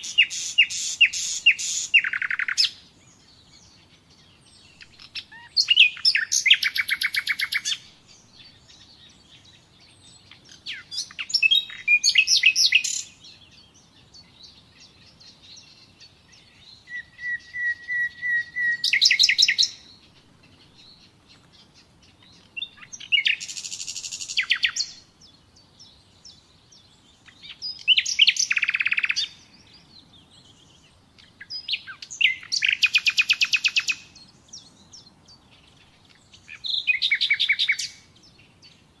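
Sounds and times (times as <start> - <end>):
nightingale singing: 0.0 - 39.0.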